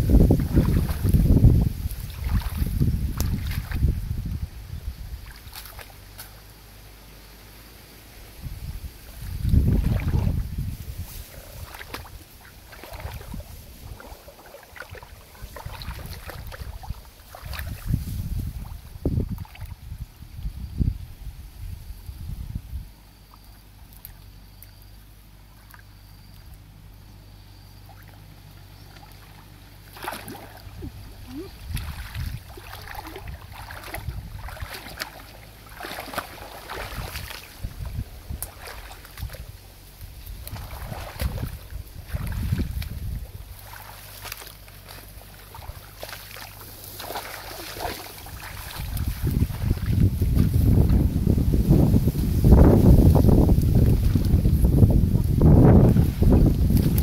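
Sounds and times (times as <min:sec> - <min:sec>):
wading through muddy water: 0:00.0 - 0:20.9, 0:21.5 - 0:57.0.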